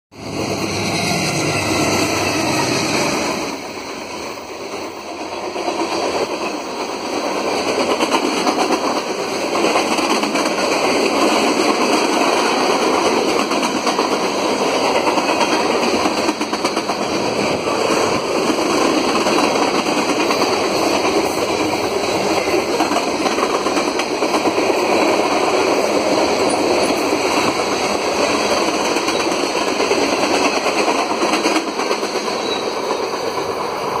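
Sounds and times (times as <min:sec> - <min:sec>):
freight train wheels rattling on rail: 0:00.2 - 0:34.0.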